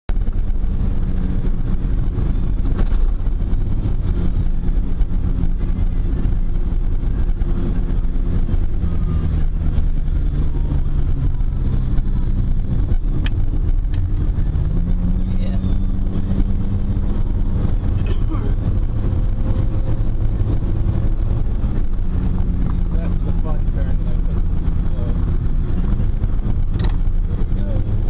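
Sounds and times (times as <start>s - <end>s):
car engine running: 0.1s - 28.0s.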